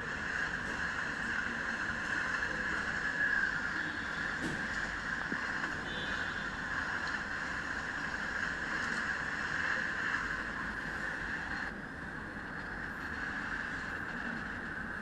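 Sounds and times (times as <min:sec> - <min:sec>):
express train rushing past: 0:00.0 - 0:15.0.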